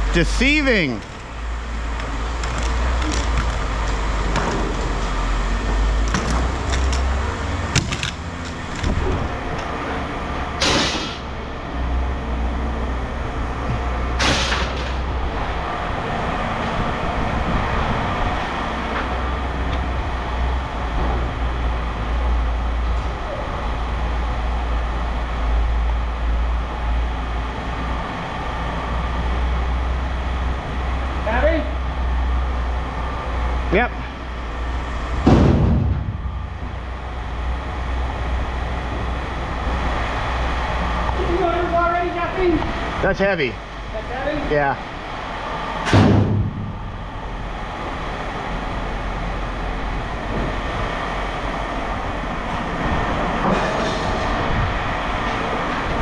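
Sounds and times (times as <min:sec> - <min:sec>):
low machine rumble: 0:00.0 - 0:56.0.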